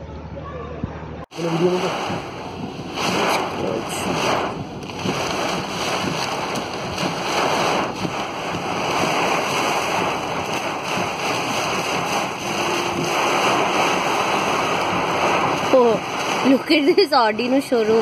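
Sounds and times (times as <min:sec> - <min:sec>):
floodwater flowing: 0:01.3 - 0:18.0
heavy rain: 0:01.3 - 0:18.0.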